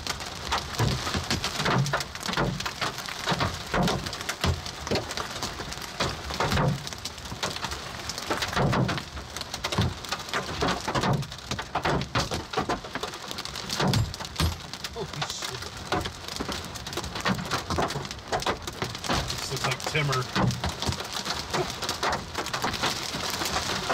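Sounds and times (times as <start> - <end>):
hailstones knocking on car roof: 0.0 - 23.9
rain hiss: 0.0 - 23.9.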